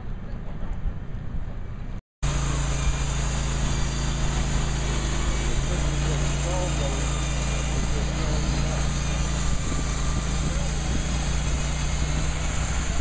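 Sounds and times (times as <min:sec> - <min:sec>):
bandsaw blade cutting log: 0:02.2 - 0:13.0
sawmill engine running: 0:02.2 - 0:13.0.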